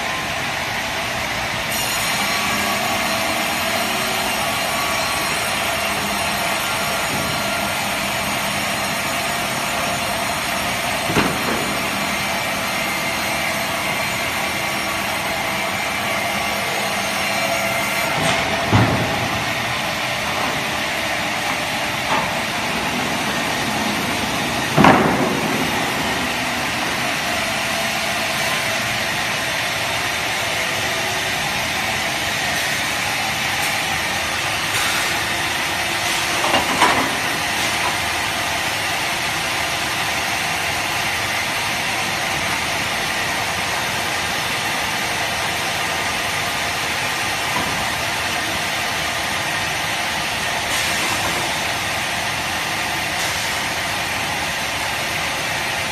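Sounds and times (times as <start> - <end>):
band saw running: 0.0 - 55.9.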